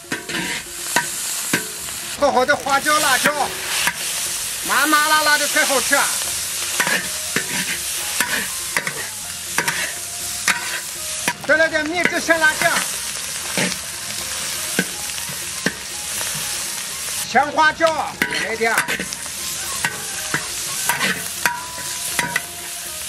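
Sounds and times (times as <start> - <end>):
spatula scraping a wok: 0.0 - 17.3, 18.1 - 23.0
hot oil sizzling in a wok: 0.0 - 23.0.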